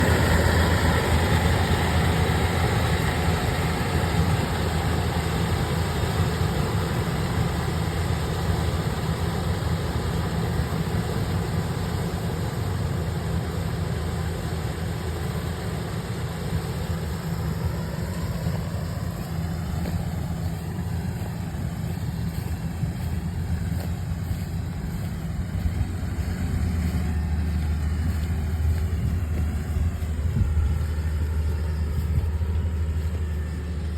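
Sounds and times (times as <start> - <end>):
low engine drone: 0.0 - 33.9.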